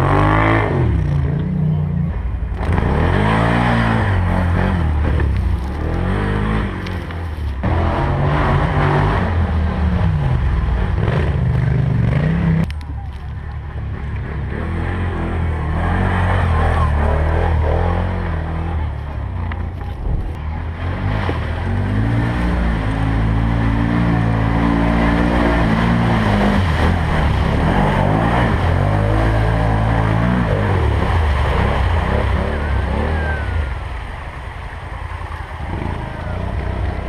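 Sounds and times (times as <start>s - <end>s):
atv engine revving: 0.0s - 12.8s, 13.7s - 37.0s.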